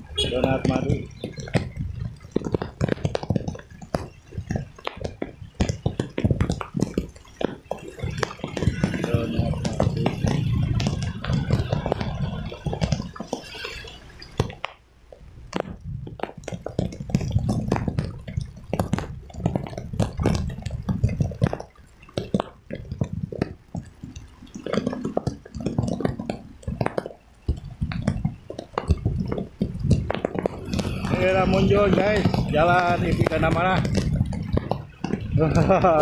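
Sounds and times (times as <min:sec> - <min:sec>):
raindrops tapping on phone: 0:00.0 - 0:36.0.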